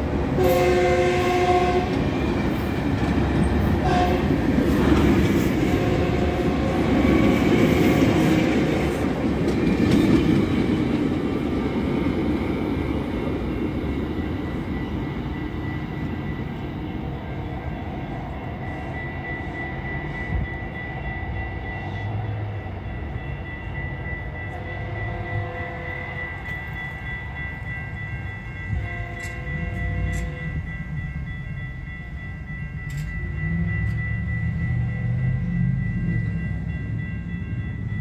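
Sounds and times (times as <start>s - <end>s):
high-pitched rail tone: 0.0s - 38.0s
train rumbling on track: 0.0s - 38.0s.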